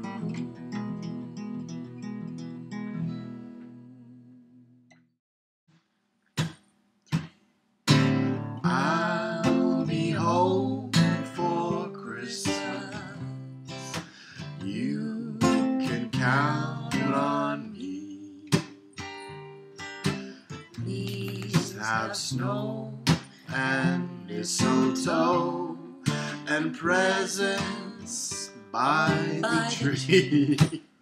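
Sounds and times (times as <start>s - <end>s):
strummed acoustic guitar: 0.0s - 3.8s, 6.4s - 30.8s
person singing a slow ballad: 0.0s - 4.4s, 8.6s - 19.4s, 20.5s - 30.8s.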